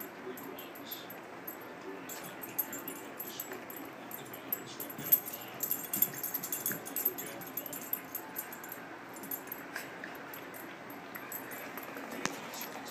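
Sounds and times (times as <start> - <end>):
collar tags jingling: 0.0 - 12.9.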